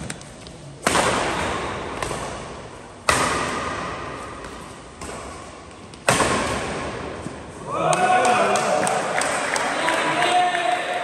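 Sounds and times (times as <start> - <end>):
rackets hitting shuttlecock: 0.8 - 9.6.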